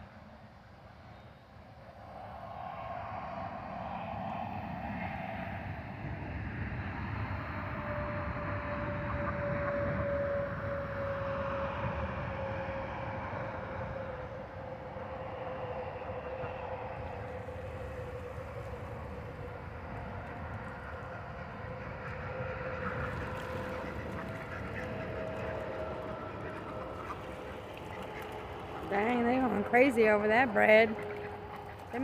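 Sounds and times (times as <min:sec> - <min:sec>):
distant engine drone: 0:00.0 - 0:32.0.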